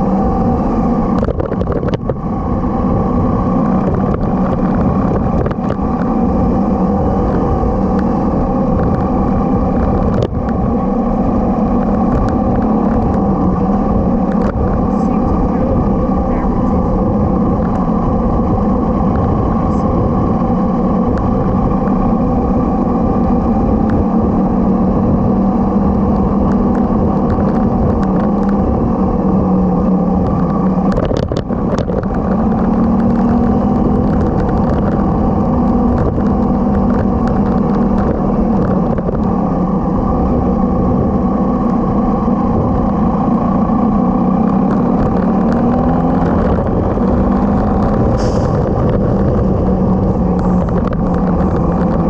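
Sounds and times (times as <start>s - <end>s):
motorcycle engine running: 0.0s - 52.0s
rumbling wind and road noise: 0.0s - 52.0s.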